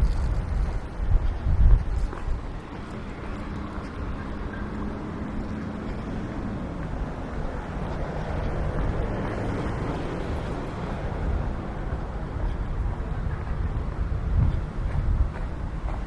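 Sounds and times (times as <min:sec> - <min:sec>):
engine low rumble: 0:00.0 - 0:16.0
outdoor street ambience: 0:00.0 - 0:16.0.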